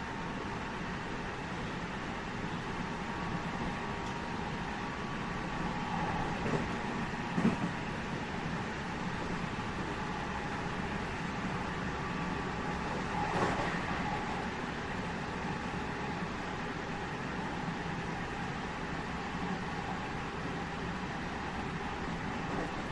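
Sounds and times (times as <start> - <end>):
train wheels rumbling on track: 0.0 - 22.9.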